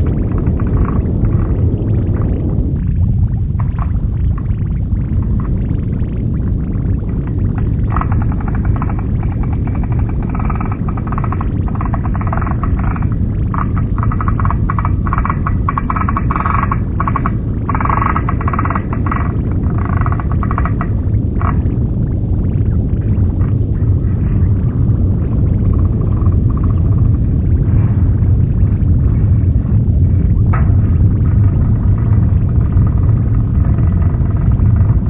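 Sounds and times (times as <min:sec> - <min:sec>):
crackling harsh noise bursts: 0:00.0 - 0:35.0
dense low rumble: 0:00.0 - 0:35.0.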